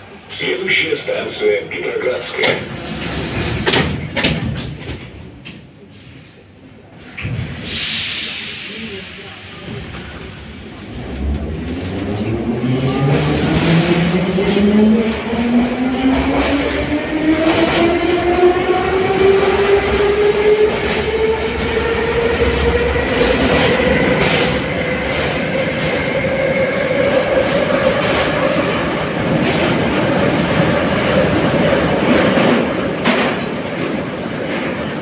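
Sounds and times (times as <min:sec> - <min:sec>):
rumble of train wheels: 0:00.0 - 0:35.0.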